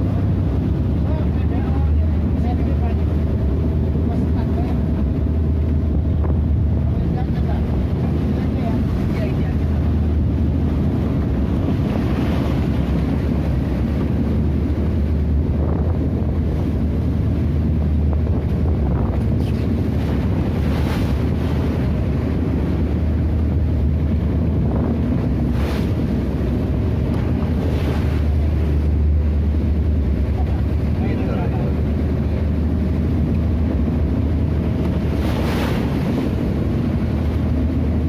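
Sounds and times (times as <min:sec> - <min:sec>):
boat engine droning: 0:00.0 - 0:38.0
waves splashing along hull: 0:00.0 - 0:38.0
wind buffeting microphone: 0:00.0 - 0:38.0.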